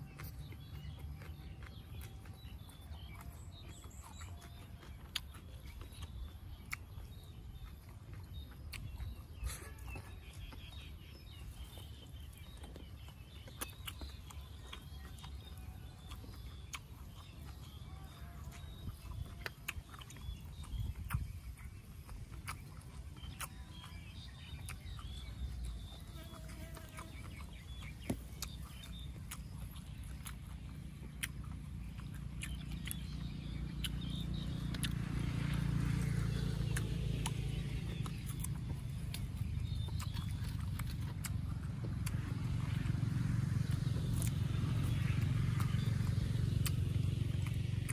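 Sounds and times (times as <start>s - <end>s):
person chewing: 0.0s - 47.9s.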